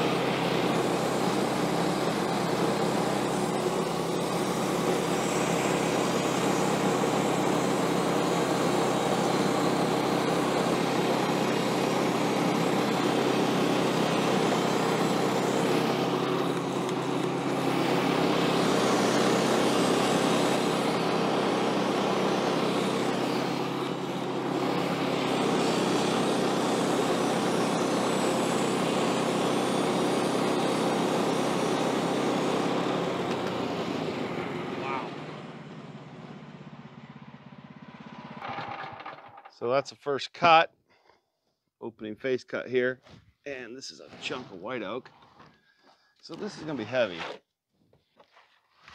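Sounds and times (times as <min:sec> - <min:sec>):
band sawmill cutting log: 0:00.0 - 0:36.6, 0:38.0 - 0:39.6, 0:46.3 - 0:47.4.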